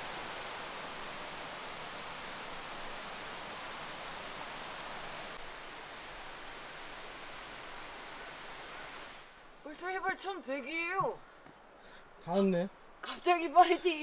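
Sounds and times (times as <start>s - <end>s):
rushing stream water: 0.0s - 14.0s.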